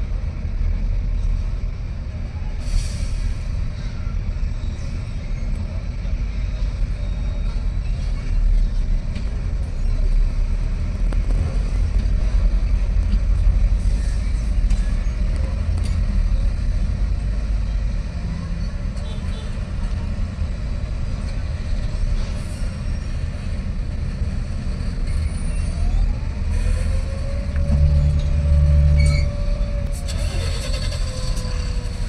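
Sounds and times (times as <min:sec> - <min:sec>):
heavy diesel engines rumbling: 0:00.0 - 0:32.0.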